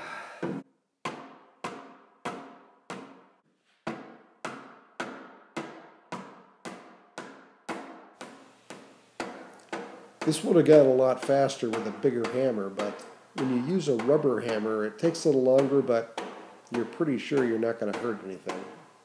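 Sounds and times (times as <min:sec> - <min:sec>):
rubber mallet striking steel: 0:00.4 - 0:19.0.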